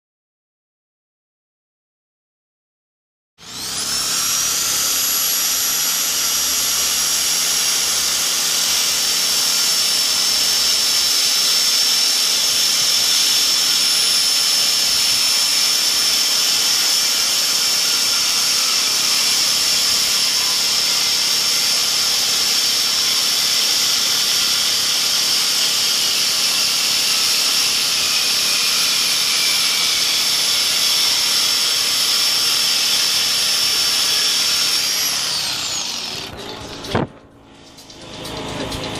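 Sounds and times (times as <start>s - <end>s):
reciprocating saw motor whining: 3.4s - 38.9s.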